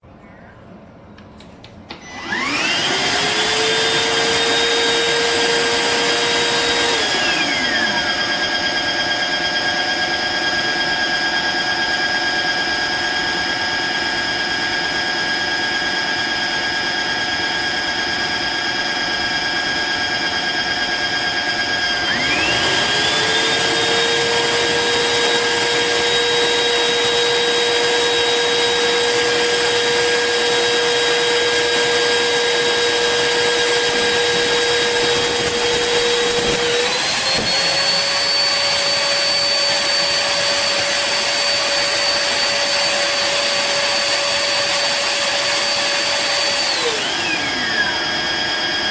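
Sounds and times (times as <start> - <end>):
vacuum motor whining: 1.2 - 48.9.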